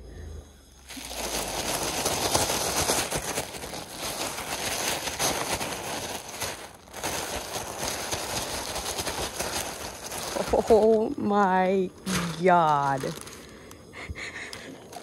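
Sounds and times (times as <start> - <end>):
chips rattling in bag: 0.8 - 15.0
plastic bag crinkling: 0.8 - 15.0.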